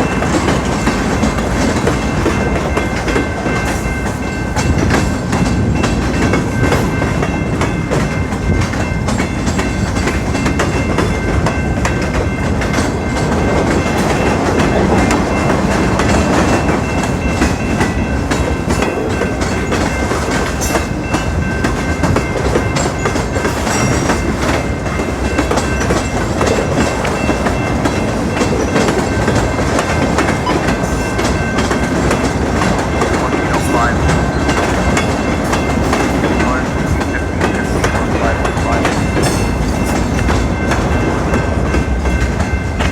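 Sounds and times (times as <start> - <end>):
train wheels clattering over rail joints: 0.0 - 42.9.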